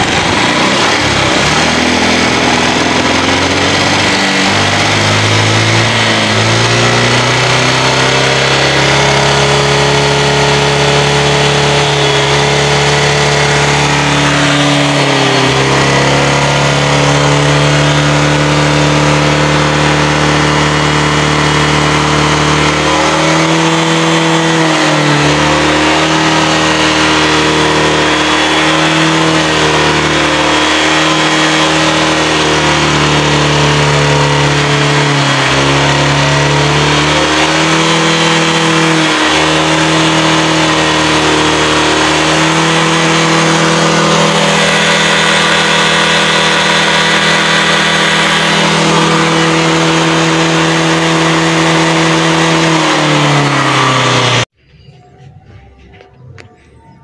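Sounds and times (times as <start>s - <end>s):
scooter engine idling and revving: 0.0s - 57.0s.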